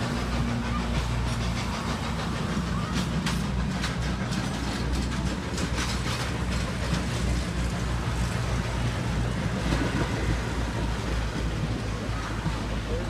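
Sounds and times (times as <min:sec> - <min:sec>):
faint wheel clacks: 0:00.0 - 0:13.0
train wheels rumbling on rail: 0:00.0 - 0:13.0.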